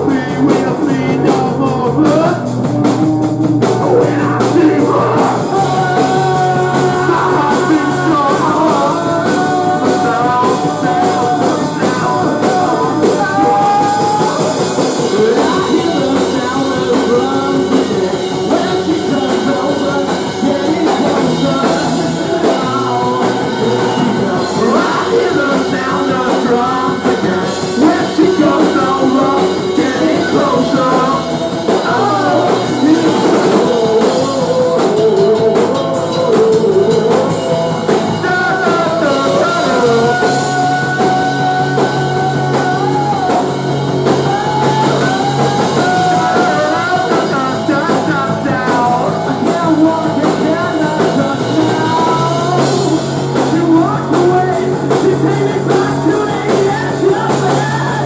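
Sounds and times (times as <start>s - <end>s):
drums: 0.0s - 58.0s
electric guitar: 0.0s - 58.0s
low bass line: 0.0s - 58.0s
man singing: 0.0s - 58.0s.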